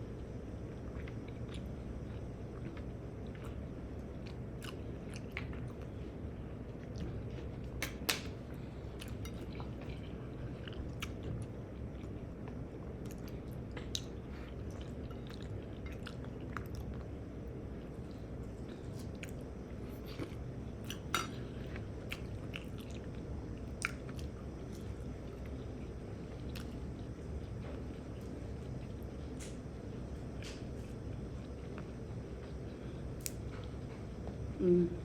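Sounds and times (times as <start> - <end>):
person chewing food: 0.8 - 6.0, 6.7 - 17.1, 17.7 - 33.9.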